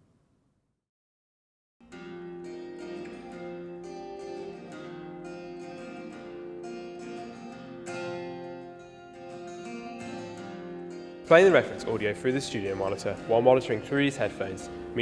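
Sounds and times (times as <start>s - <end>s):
plucked guitar-like music: 1.8s - 15.0s.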